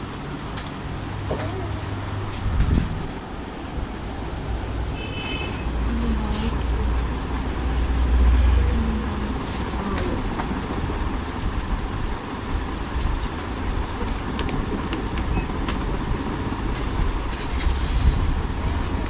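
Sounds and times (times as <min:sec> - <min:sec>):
low rumble of shop noise: 0:00.0 - 0:19.0.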